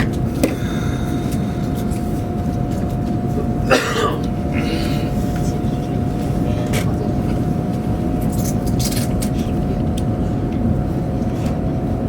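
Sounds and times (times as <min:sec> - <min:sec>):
faint steady hum: 0:00.0 - 0:11.2
train cabin low rumble: 0:00.0 - 0:12.0.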